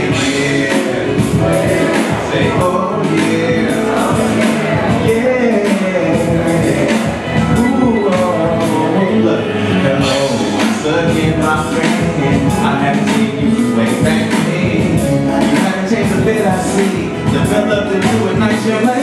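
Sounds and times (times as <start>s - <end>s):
backing track with steady beat: 0.0s - 19.0s
man singing into microphone: 0.0s - 19.0s.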